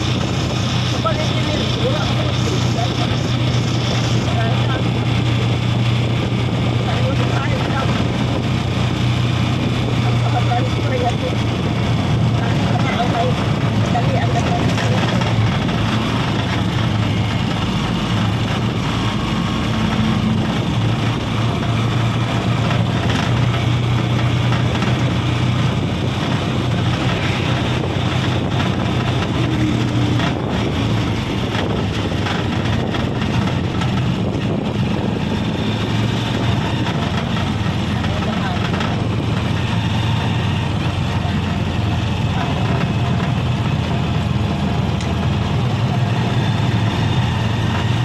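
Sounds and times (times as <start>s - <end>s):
tyre and road noise: 0.0s - 48.0s
vehicle engine humming: 0.0s - 48.0s.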